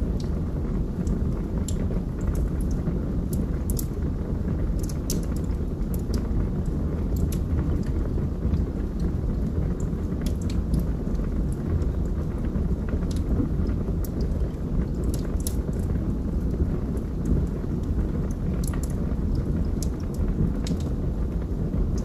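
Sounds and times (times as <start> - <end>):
log fire burning: 0.0 - 22.0.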